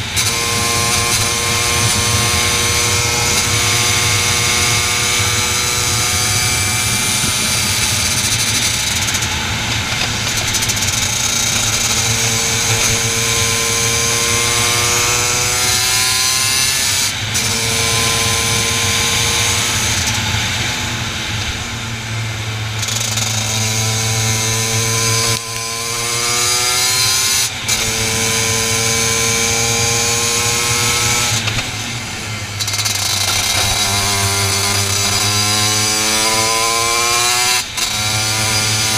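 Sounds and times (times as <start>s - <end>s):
kart engine at full throttle: 0.0s - 38.9s.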